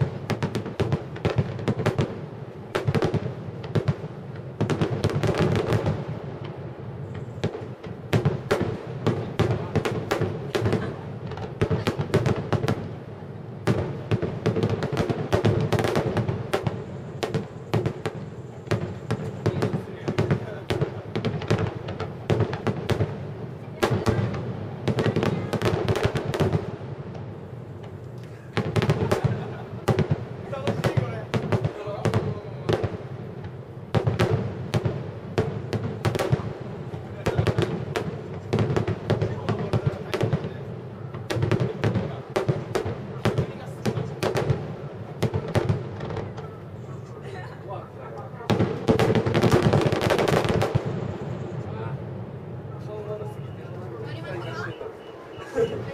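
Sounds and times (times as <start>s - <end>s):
fireworks booming: 0.0s - 55.9s.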